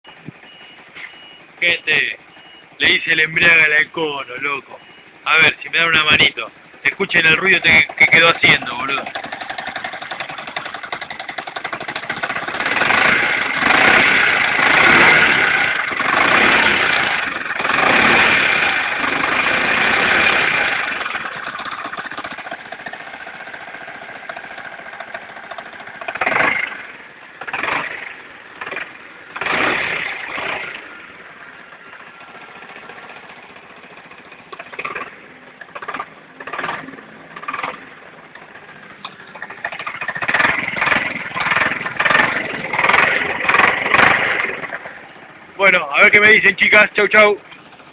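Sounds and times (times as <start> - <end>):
motorcycle engine revving and idling: 0.0 - 47.9.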